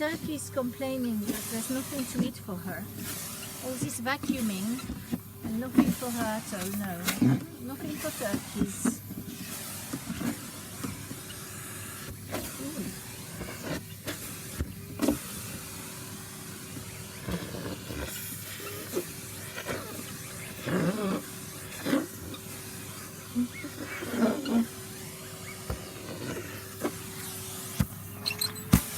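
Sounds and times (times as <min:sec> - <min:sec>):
vacuum cleaner motor humming: 0:00.0 - 0:28.9.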